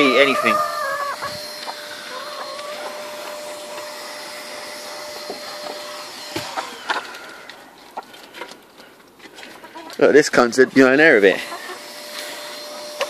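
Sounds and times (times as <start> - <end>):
motor humming: 0.0 - 8.4, 10.8 - 13.0.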